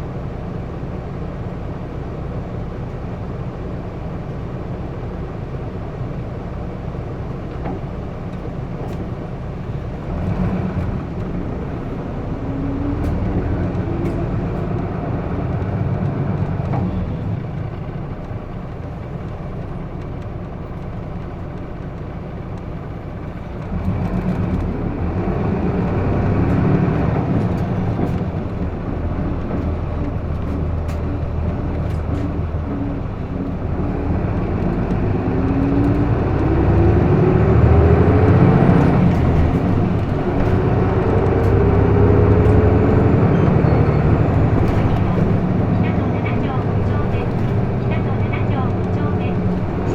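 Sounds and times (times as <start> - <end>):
bus diesel engine: 0.0 - 49.9
road noise inside bus: 0.0 - 49.9.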